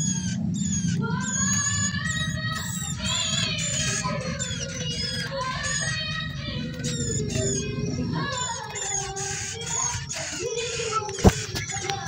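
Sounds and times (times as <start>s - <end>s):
bird chirps sweeping downward: 0.0s - 12.0s
lower sliding bird tones: 0.0s - 12.0s.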